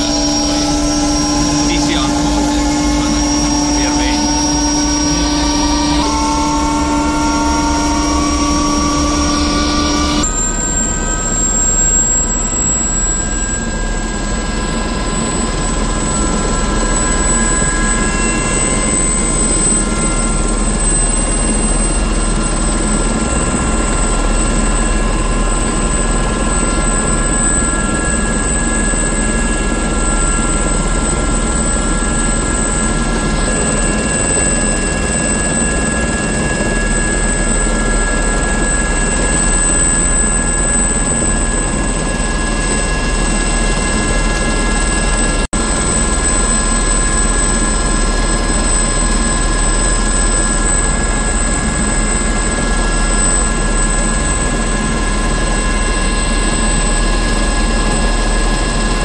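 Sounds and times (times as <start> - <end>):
helicopter rotor rushing noise: 0.0 - 59.0
helicopter turbine whine: 0.0 - 59.0.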